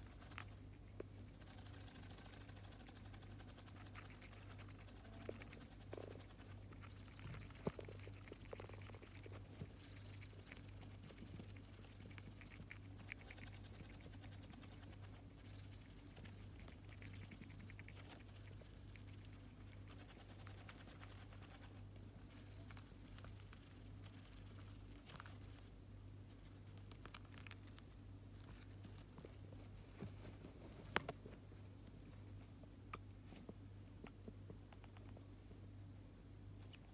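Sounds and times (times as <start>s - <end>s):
hamsters nibbling and rustling: 0.0s - 36.9s
steady low hum: 0.0s - 36.9s.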